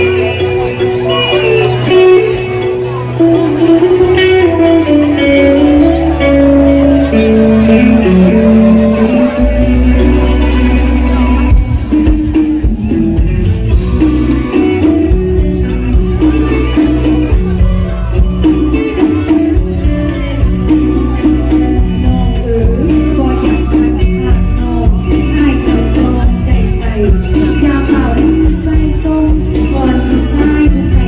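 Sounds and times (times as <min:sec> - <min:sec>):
bass guitar: 0:00.0 - 0:31.0
electric guitars: 0:00.0 - 0:31.0
drum kit beat: 0:03.4 - 0:31.0.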